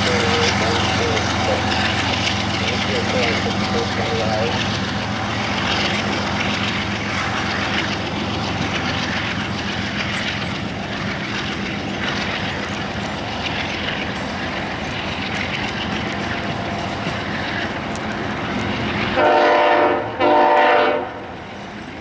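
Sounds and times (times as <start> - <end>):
low steady drone: 0.0 - 19.3
freight train rolling past: 0.0 - 22.0.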